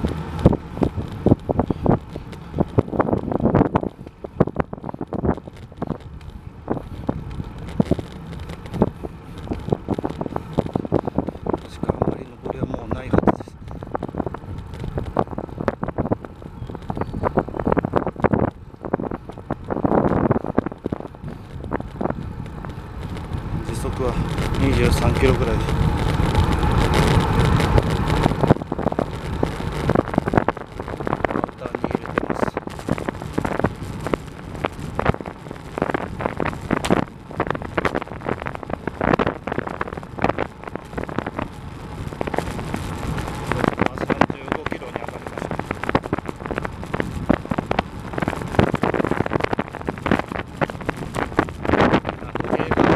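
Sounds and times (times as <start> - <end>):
bicycle knocks and rattles: 0.0 - 52.0
low road rumble: 0.0 - 52.9
wind buffeting microphone: 0.0 - 52.9.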